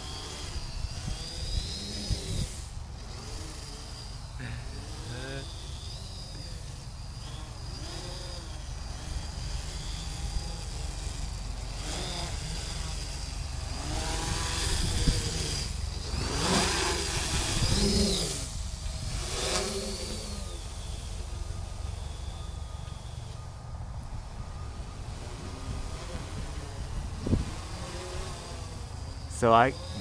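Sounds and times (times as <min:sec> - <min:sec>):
quadcopter buzzing: 0:00.0 - 0:30.0.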